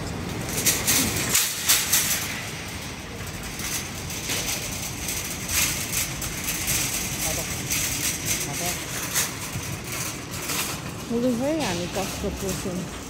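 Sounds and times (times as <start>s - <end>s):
rattling clatters: 0.0s - 13.0s
steady rumble: 0.0s - 13.0s.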